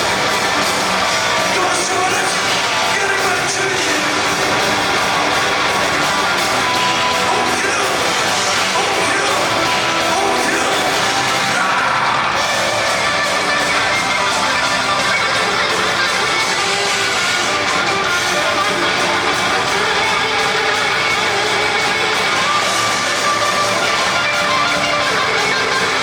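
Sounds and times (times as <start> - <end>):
loud heavy metal rock music: 0.0 - 26.0.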